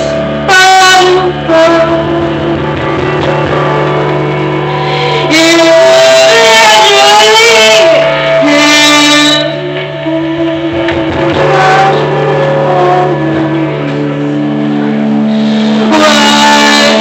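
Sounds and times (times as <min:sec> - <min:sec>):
low drone note: 0:00.0 - 0:17.0
slow held melody notes: 0:00.0 - 0:17.0.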